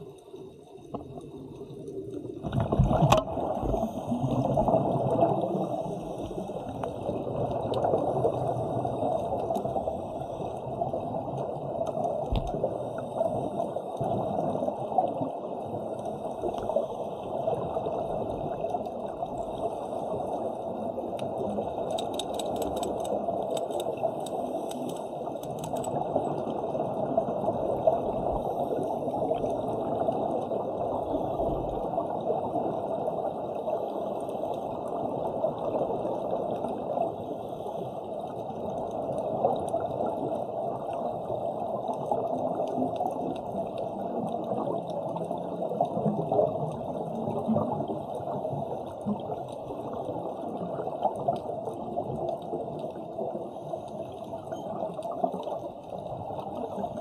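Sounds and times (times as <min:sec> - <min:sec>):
underwater rush with bubbling: 0:00.0 - 0:57.0.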